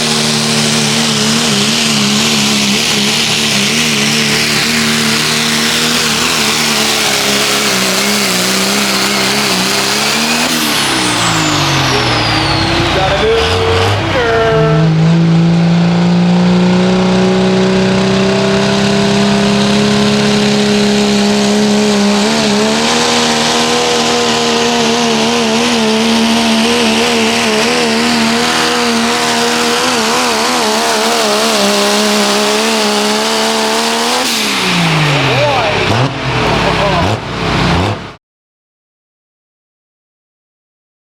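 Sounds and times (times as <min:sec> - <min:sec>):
truck engine under heavy load: 0:00.0 - 0:38.2.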